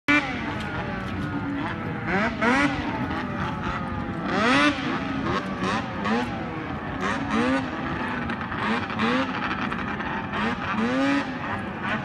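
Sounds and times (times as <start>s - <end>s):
snowmobile engine revving: 0.1s - 12.0s.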